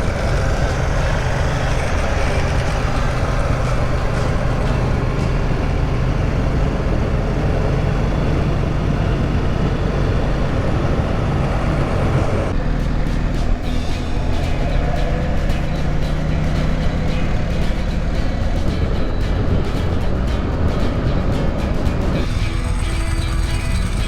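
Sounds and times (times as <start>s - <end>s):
motorcycle engine running: 0.0s - 24.0s
rushing wind noise: 0.0s - 24.0s.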